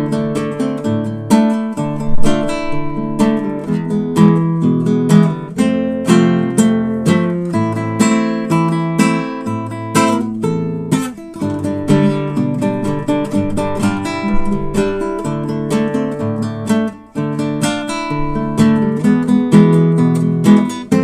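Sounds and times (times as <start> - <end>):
solo acoustic guitar: 0.0 - 21.0.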